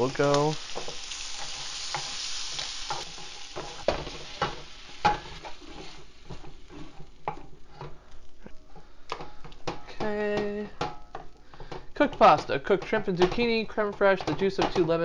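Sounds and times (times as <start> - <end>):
food sizzling in a skillet: 0.0 - 15.0
spatula scraping and knocking a pan: 0.3 - 8.1, 8.8 - 15.0.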